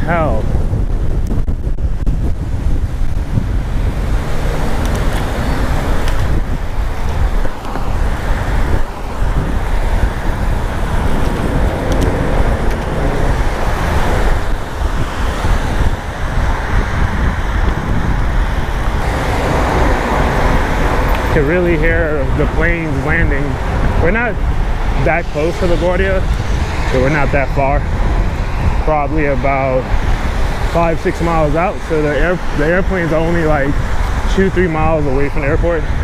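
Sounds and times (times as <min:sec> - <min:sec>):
road traffic passing: 0:00.0 - 0:36.0
wind buffeting microphone: 0:00.0 - 0:36.0.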